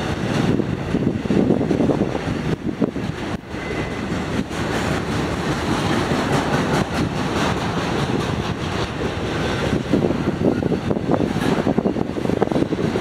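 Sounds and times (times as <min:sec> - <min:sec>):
freight train wheels rolling on rails: 0:00.0 - 0:13.0.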